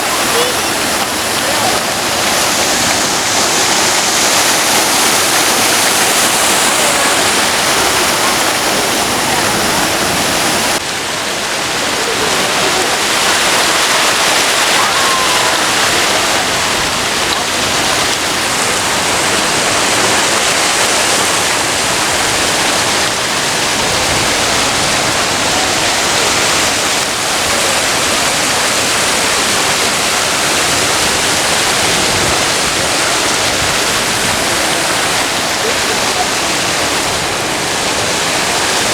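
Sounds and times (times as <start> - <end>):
water falling and splashing: 0.0 - 38.9.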